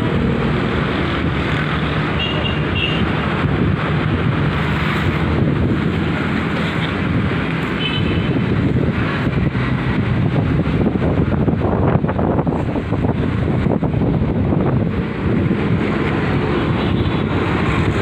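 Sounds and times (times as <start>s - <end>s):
wind blowing across microphone: 0.0s - 18.0s.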